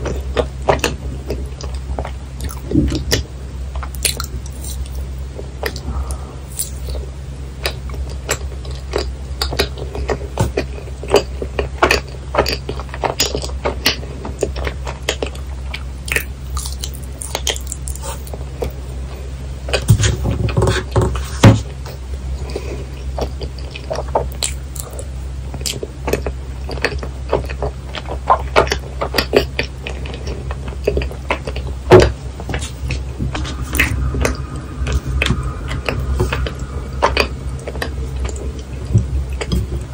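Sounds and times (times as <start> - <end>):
low hum: 0.0 - 14.6, 15.2 - 20.5, 21.6 - 26.6, 30.4 - 39.9.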